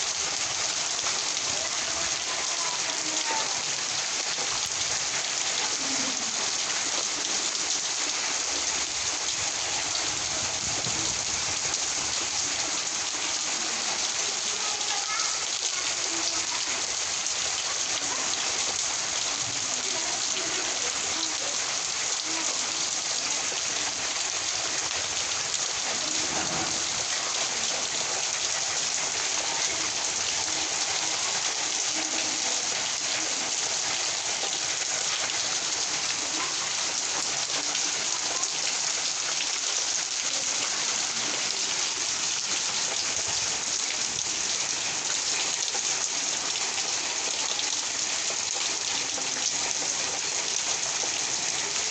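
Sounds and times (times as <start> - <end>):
rain falling steadily: 0.0 - 51.9.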